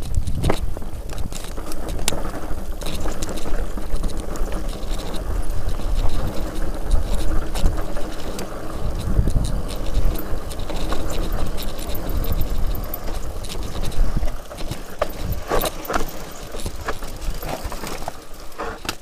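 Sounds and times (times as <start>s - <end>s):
wind buffeting microphone: 0.0s - 18.6s
mountain bike rattling over rocks: 0.0s - 19.0s.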